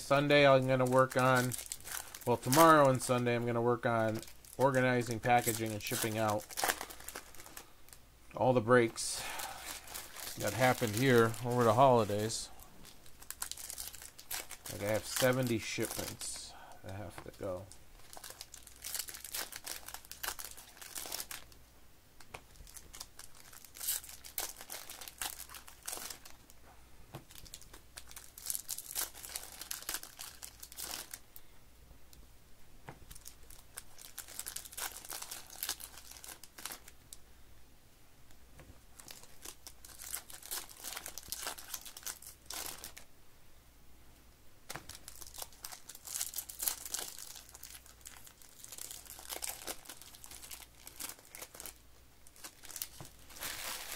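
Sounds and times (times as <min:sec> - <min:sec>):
foil wrappers tearing and crinkling: 0:00.4 - 0:08.0, 0:09.2 - 0:16.4, 0:17.3 - 0:21.5, 0:22.4 - 0:26.5, 0:27.3 - 0:31.2, 0:33.1 - 0:36.9, 0:39.0 - 0:43.1, 0:44.7 - 0:53.9.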